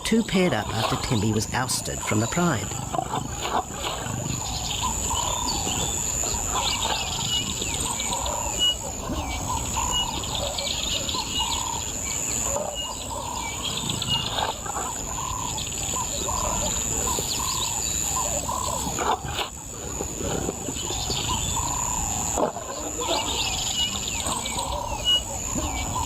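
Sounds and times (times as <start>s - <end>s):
birds chirping: 0.0s - 26.0s
steady high-pitched hiss: 0.0s - 26.0s.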